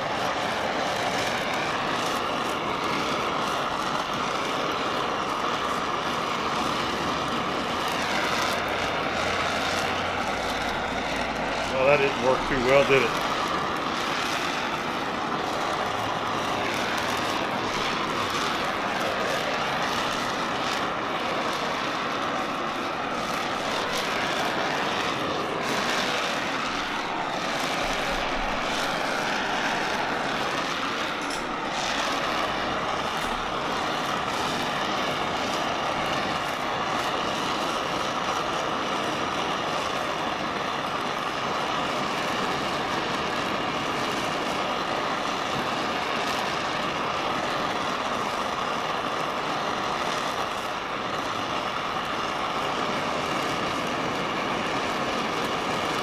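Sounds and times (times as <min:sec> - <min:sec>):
welding torch flame hissing: 0:00.0 - 0:56.0.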